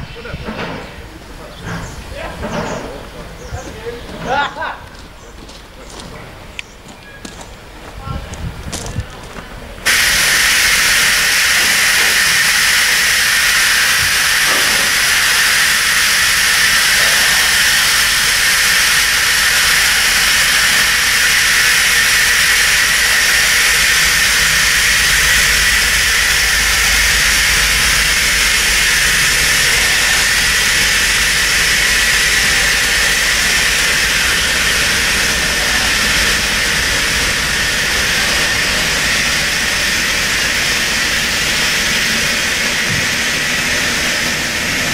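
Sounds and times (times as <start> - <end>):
steam locomotive hissing: 7.6 - 44.9.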